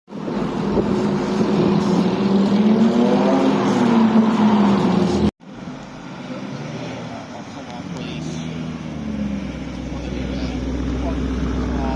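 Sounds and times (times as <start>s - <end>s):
car engine and exhaust running: 0.1s - 3.4s, 4.6s - 11.9s.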